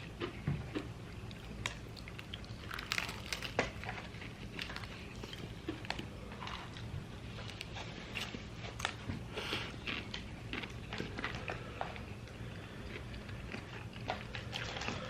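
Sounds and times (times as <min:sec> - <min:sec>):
crunching and chewing fried chicken: 0:00.0 - 0:15.0.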